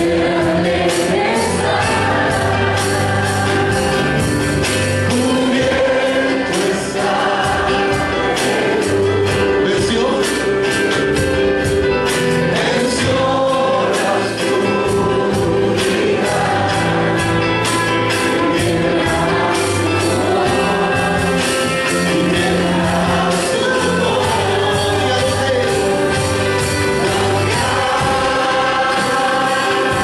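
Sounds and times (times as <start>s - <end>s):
group of voices singing: 0.0s - 30.0s
steady drum beat: 0.0s - 30.0s
worship band playing: 0.0s - 30.0s.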